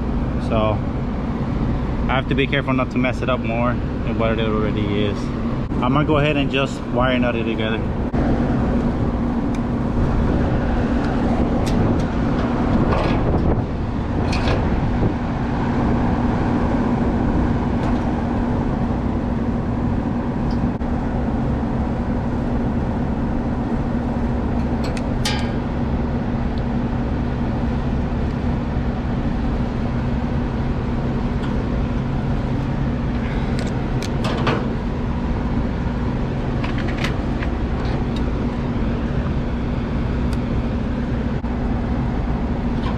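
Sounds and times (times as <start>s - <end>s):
air conditioner blower humming: 0.0s - 42.9s.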